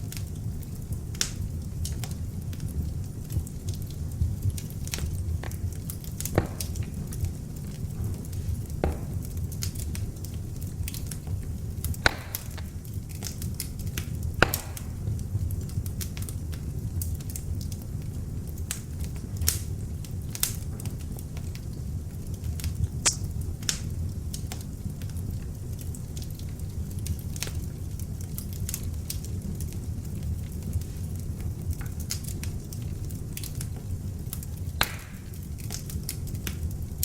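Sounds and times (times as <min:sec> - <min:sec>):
log fire flames rumbling: 0:00.0 - 0:37.0
wood crackling and popping: 0:00.0 - 0:37.0.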